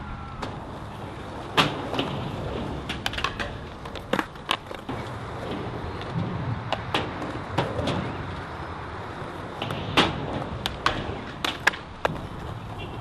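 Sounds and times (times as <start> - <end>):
skateboard wheels rolling on concrete: 0.0 - 13.0
skateboard clacks and knocks: 0.1 - 13.0.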